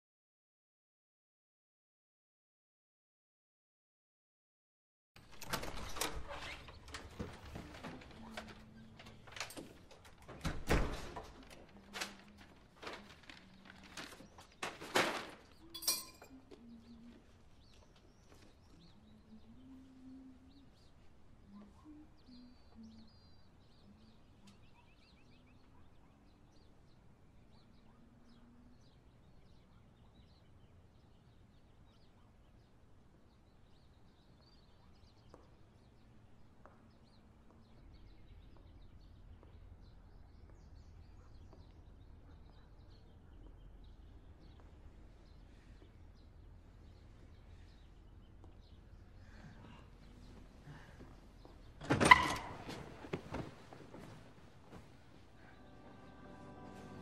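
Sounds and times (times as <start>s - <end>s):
faint birds chirping: 5.2s - 57.0s.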